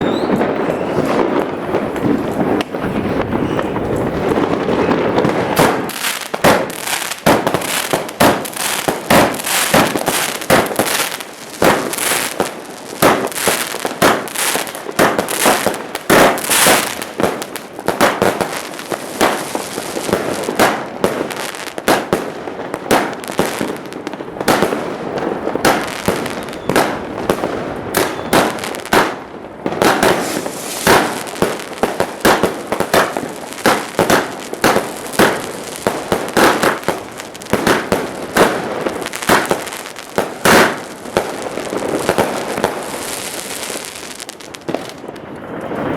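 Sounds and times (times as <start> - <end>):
fireworks firing sharp bangs: 0.0 - 45.9.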